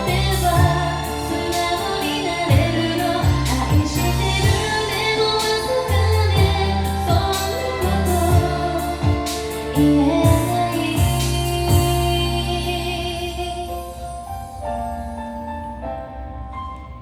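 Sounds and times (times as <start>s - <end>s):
woman singing a slow ballad: 0.0s - 14.5s
backing track with bass notes: 0.0s - 17.0s.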